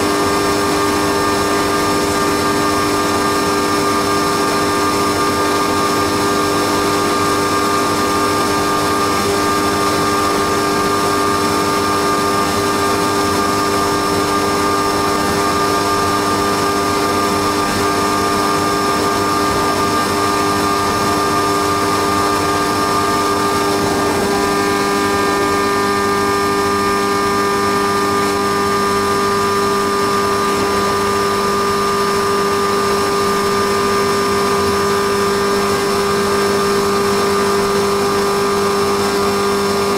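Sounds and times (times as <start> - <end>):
milling machine cutting whine: 0.0 - 39.9.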